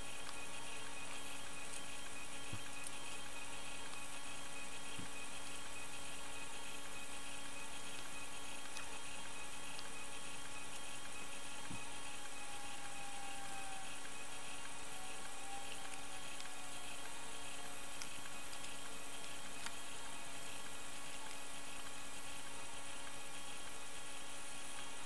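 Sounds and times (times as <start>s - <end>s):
mechanical hum: 0.0s - 25.0s
faint clicks: 0.1s - 25.0s.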